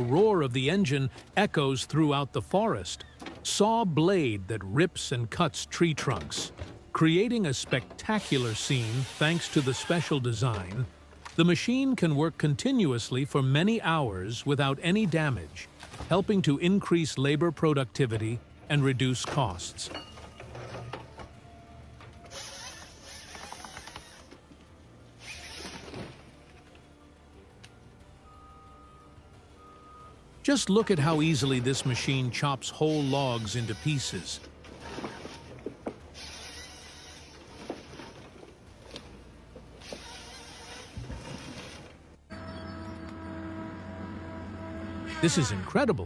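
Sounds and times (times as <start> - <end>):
quiet background music: 0.0 - 46.0
mechanical machine noise: 0.7 - 16.7, 17.7 - 26.7, 29.6 - 45.5.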